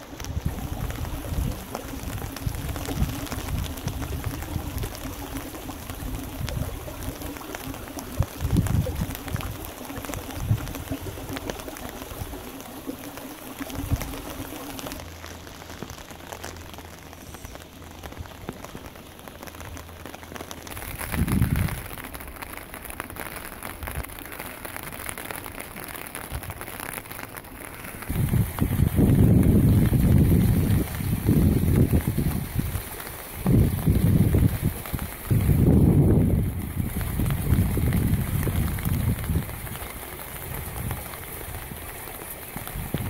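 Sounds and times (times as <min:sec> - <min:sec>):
rain on wet ground: 0:00.0 - 0:43.0.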